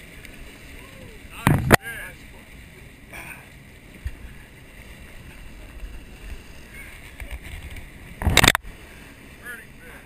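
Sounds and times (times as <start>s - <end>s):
low steady rumble: 0.0s - 10.0s
water rushing alongside boat hull: 0.0s - 10.0s.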